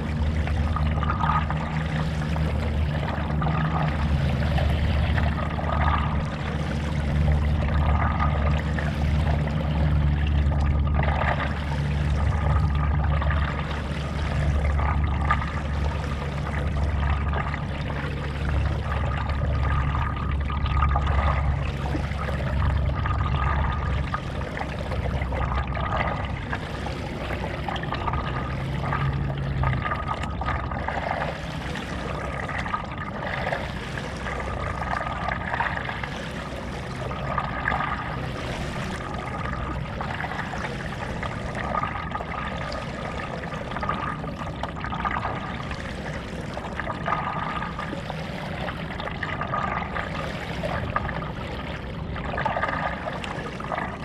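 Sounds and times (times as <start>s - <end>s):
paddle splashing through water: 0.0s - 54.0s.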